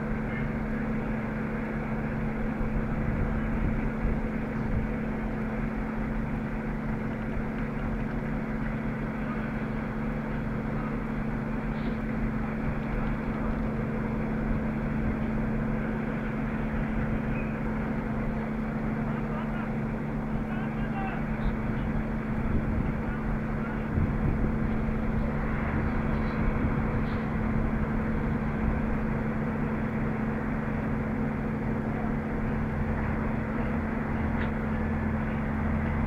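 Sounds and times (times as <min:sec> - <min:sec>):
crane engine running: 0:00.0 - 0:36.0.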